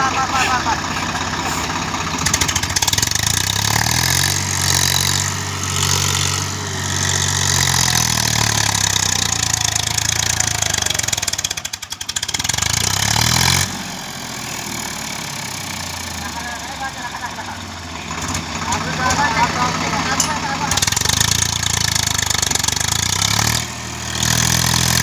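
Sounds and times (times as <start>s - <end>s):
tractor diesel engine revving: 0.0s - 25.0s.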